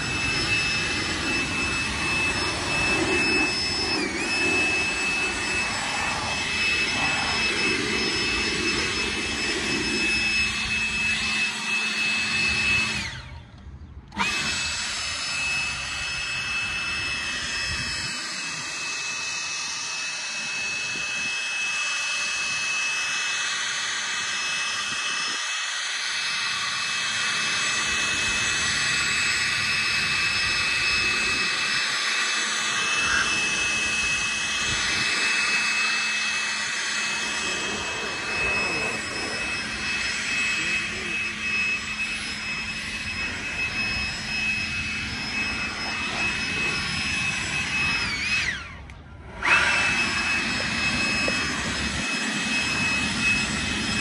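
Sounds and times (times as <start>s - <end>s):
leaf blower running: 0.0s - 54.0s.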